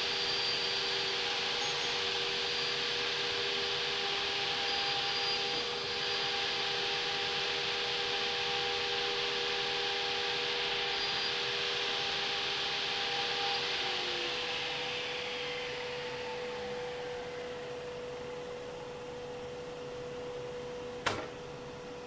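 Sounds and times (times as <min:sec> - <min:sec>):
power saw motor whining: 0:00.0 - 0:21.9.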